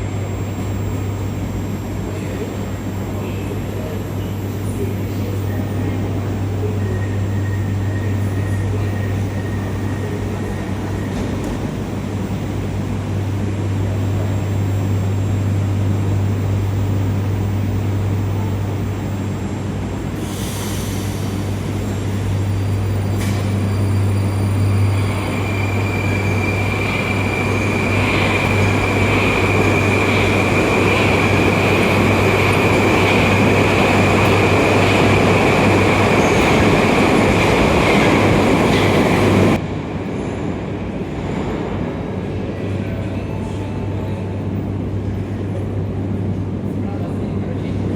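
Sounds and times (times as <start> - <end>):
metro train rumbling: 0.0 - 47.9.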